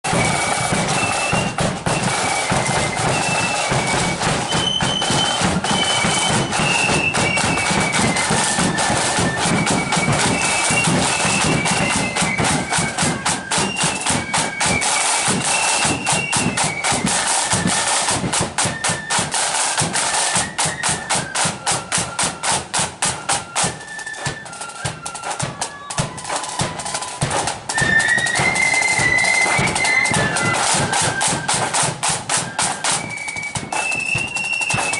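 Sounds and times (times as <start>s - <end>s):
flutes playing high melody: 0.0s - 34.9s
rapid snare drumming: 0.0s - 34.9s.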